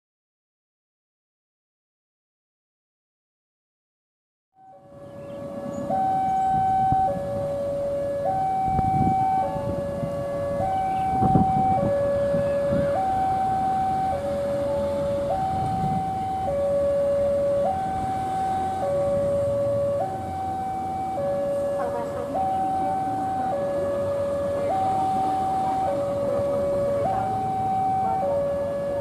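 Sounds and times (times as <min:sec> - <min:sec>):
two-tone crossing alarm: 0:04.6 - 0:29.0.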